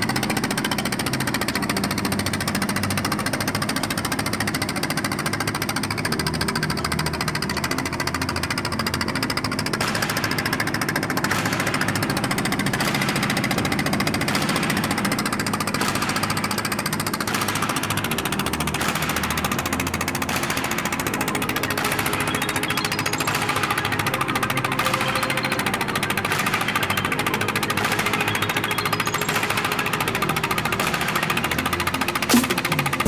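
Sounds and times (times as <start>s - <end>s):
boat engine knocking steadily: 0.0s - 33.0s.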